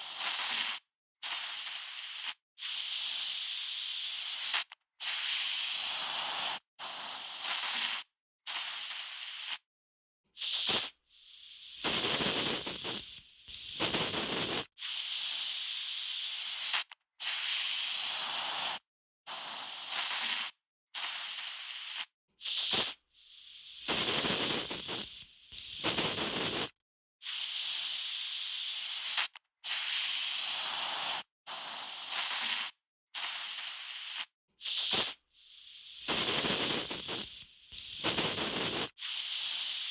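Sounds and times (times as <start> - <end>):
aerosol spray can hissing: 0.0 - 9.6, 10.4 - 39.9.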